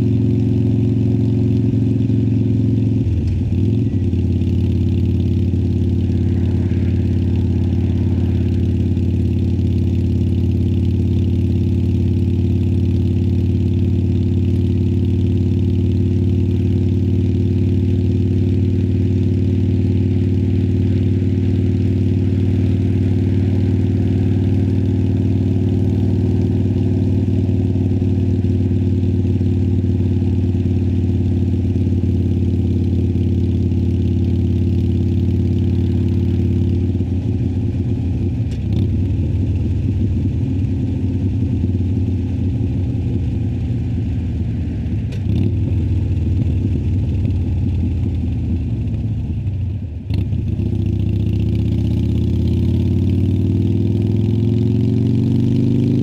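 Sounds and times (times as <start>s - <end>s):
motorcycle engine running steadily: 0.0s - 56.0s.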